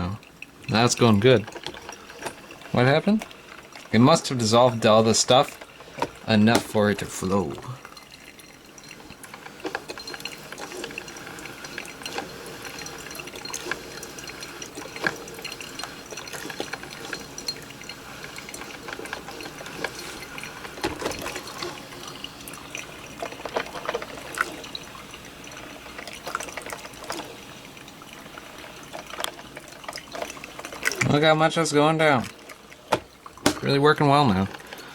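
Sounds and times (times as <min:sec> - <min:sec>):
coffee maker dripping: 0:00.0 - 0:34.9.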